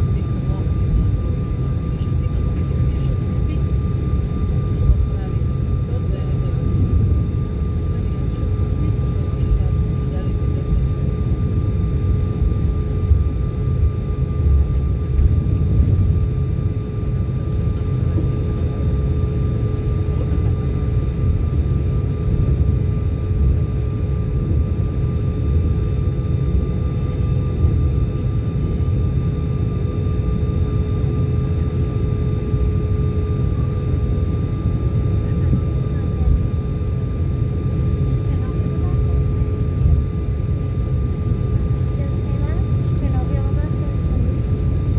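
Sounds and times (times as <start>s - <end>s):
airliner engines rumbling: 0.0s - 44.9s.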